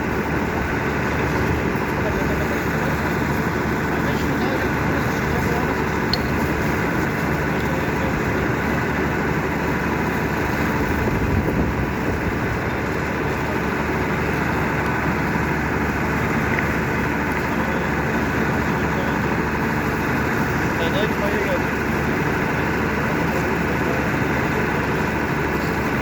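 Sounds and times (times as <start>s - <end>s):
heavy engine idling: 0.0s - 26.0s.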